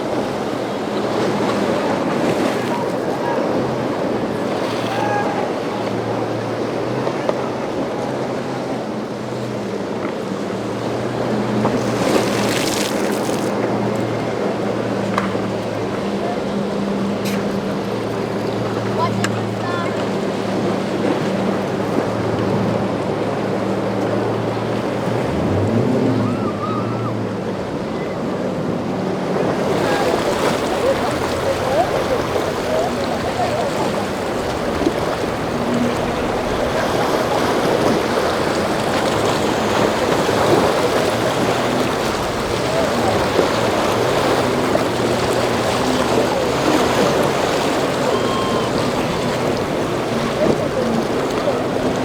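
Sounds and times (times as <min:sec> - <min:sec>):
boat engine droning: 0:00.0 - 0:52.0
surf and water washing: 0:00.0 - 0:52.0
waves rushing: 0:00.0 - 0:52.0
wind: 0:00.0 - 0:52.0.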